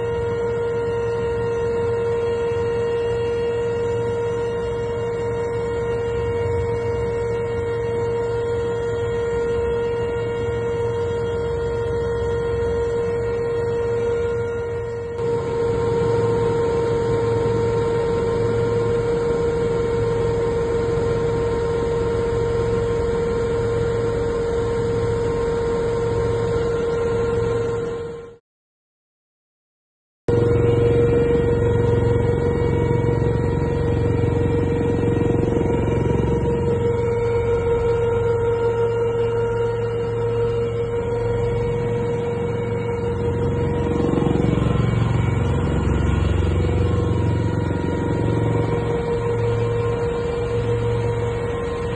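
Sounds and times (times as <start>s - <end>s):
helicopter high whine: 0.0s - 28.4s, 30.3s - 51.9s
low drone: 0.0s - 28.4s, 30.3s - 51.9s.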